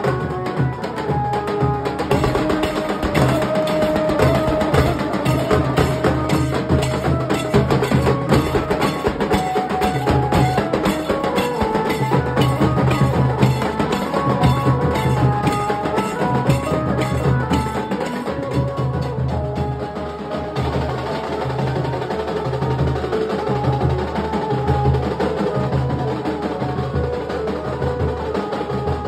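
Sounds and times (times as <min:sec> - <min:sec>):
barrel drums beating fast rhythm: 0:00.0 - 0:29.0
melody line over drums: 0:00.0 - 0:29.0.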